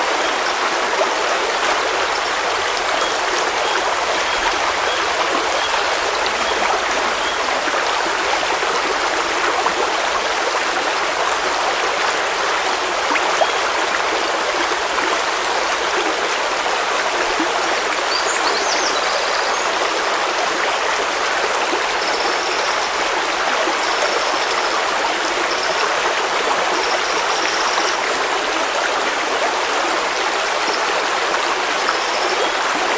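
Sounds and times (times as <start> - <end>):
water rushing over rocks: 0.0 - 32.9.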